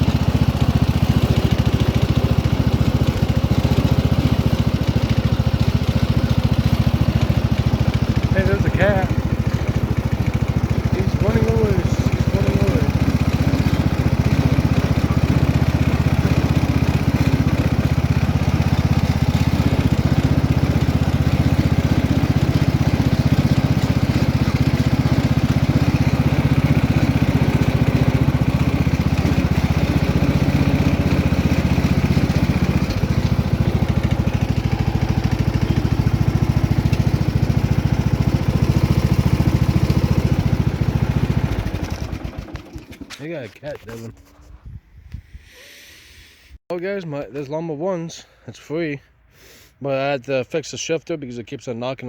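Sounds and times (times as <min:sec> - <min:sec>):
lawn tractor engine running: 0:00.0 - 0:44.4.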